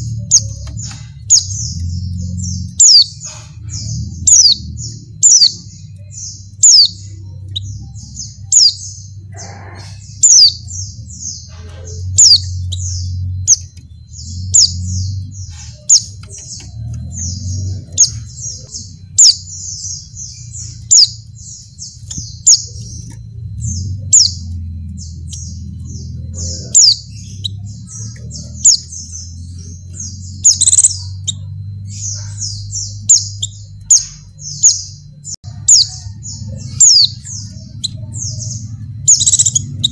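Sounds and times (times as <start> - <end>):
bird chirping rapidly: 0.0 - 39.9
low background rumble: 0.0 - 39.9.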